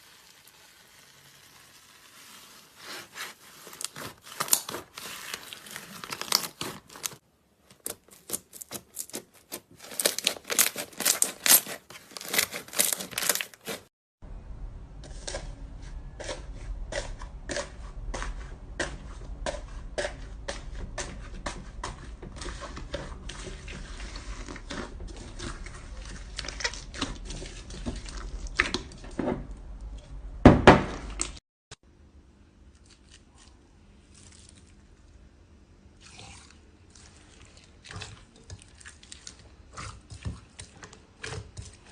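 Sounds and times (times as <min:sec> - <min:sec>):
slime squelch: 0:00.2 - 0:13.9, 0:14.9 - 0:29.0, 0:32.6 - 0:35.2, 0:35.9 - 0:41.9.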